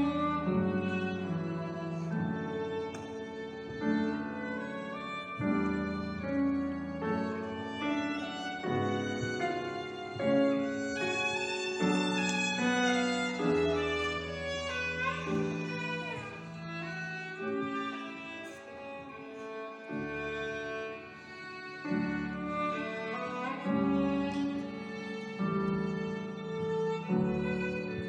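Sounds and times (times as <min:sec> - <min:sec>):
grand piano accompaniment: 0:00.0 - 0:28.0
violin playing held notes: 0:00.0 - 0:28.0.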